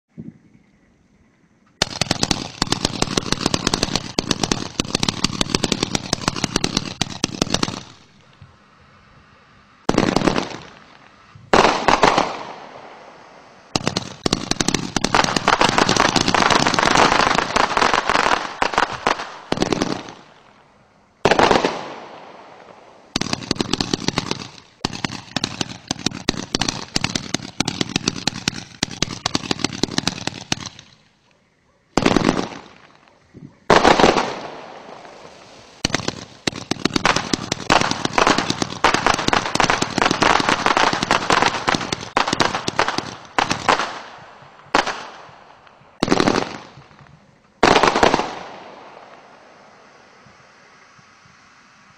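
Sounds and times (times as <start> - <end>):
firework bangs: 1.8 - 8.6, 9.8 - 20.6, 21.2 - 31.1, 31.9 - 51.9
firework crackling: 1.8 - 31.2, 31.9 - 33.1, 33.7 - 51.9.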